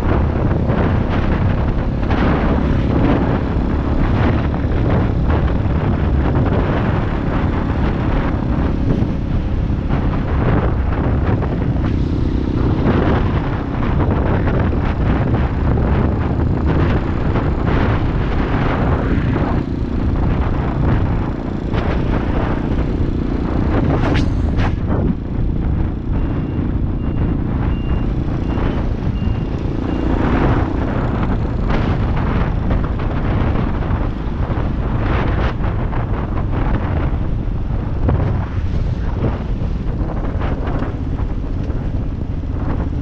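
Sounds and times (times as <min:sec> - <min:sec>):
motorcycle engine running: 0:00.0 - 0:43.0
wind buffeting camera: 0:00.0 - 0:43.0.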